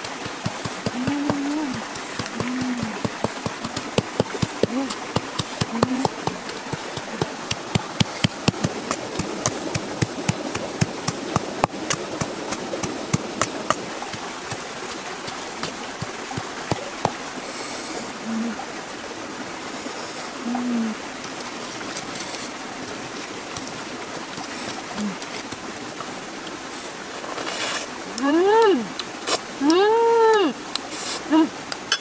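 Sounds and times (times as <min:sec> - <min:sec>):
steady rushing hiss: 0:00.0 - 0:29.6, 0:30.4 - 0:32.0.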